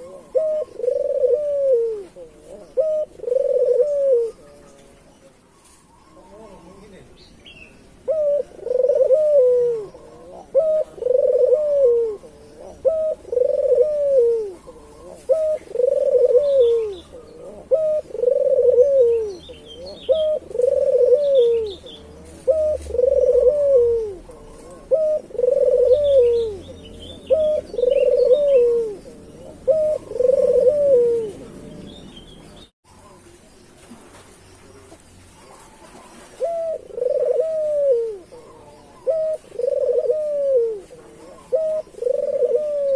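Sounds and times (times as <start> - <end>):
dove cooing: 0.0 - 7.2, 7.9 - 33.4, 34.6 - 42.9
small birds chirping: 0.0 - 42.9.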